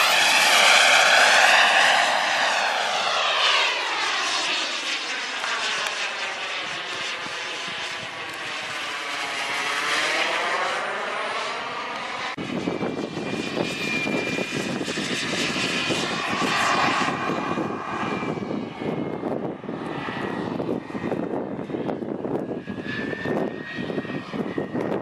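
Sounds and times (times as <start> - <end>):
model jet turbine flying overhead: 0.0 - 25.0.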